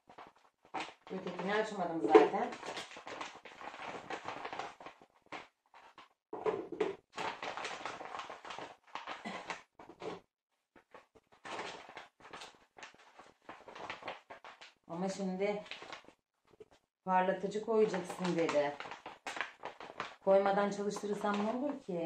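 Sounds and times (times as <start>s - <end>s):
plastic pouch crinkling: 0.0s - 6.1s, 7.1s - 10.1s, 10.8s - 14.8s, 15.6s - 16.1s, 17.8s - 22.0s.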